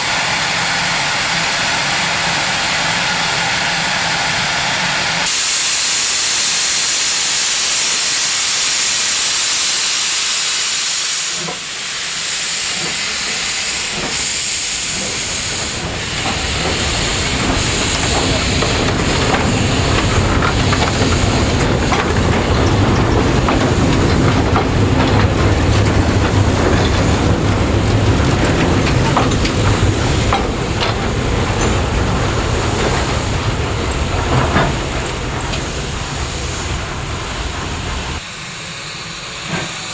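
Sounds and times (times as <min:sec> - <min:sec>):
locomotive steam hiss: 0:00.0 - 0:39.9
train rumbling: 0:00.0 - 0:39.9.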